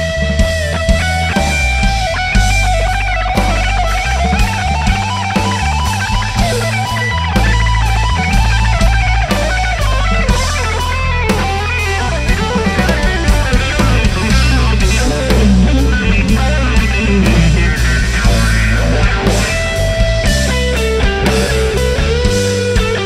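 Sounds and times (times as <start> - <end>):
bass guitar: 0.0 - 23.0
drum kit: 0.0 - 23.0
electric guitar solo: 0.0 - 23.0.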